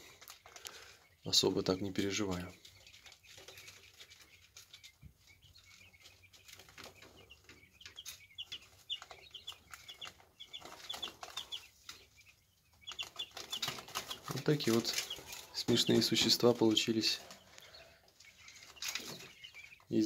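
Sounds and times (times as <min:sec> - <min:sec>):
chicks tapping on paper bedding: 0:00.0 - 0:20.0
quail chicks peeping: 0:00.0 - 0:20.0.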